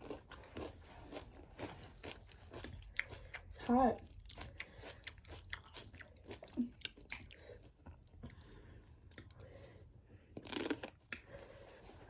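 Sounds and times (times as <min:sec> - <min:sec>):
person chewing with crunches: 0:00.0 - 0:09.4, 0:10.3 - 0:12.0.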